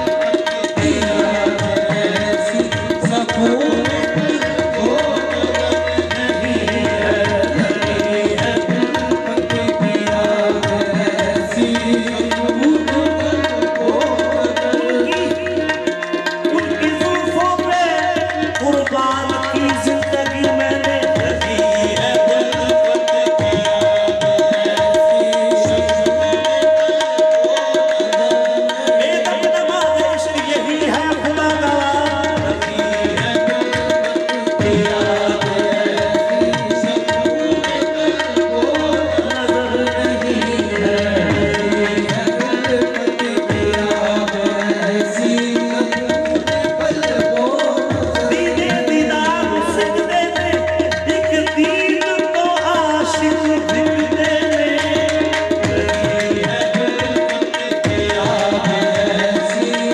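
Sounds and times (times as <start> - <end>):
harmonium melody over drone: 0.0 - 59.8
tabla beat: 0.0 - 59.9.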